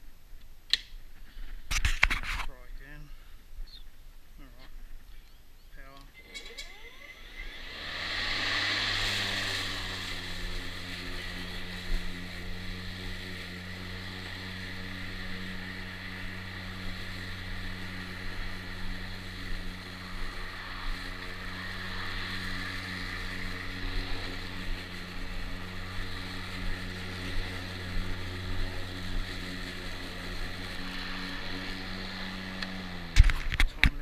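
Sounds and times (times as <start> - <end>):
electric lawn mower running: 5.8 - 34.0.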